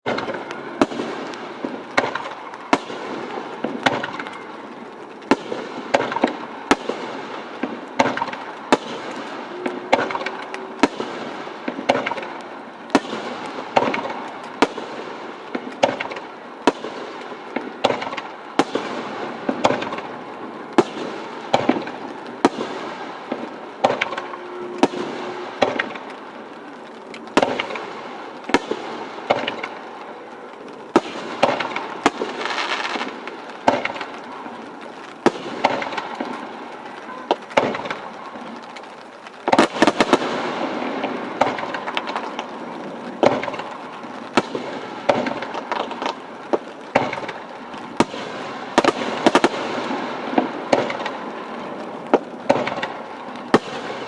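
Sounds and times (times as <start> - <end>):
fireworks crackling: 0.0 - 54.0
fireworks shells bursting: 0.1 - 54.0.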